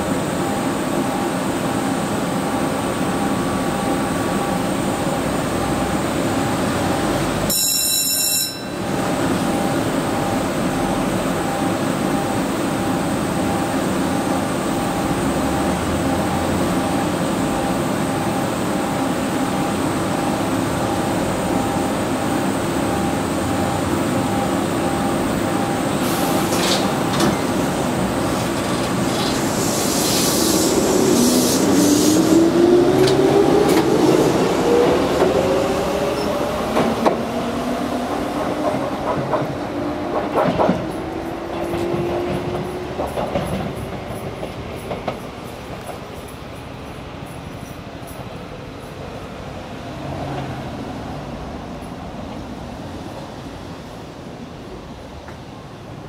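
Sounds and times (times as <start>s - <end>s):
electric train humming: 0.0s - 56.0s.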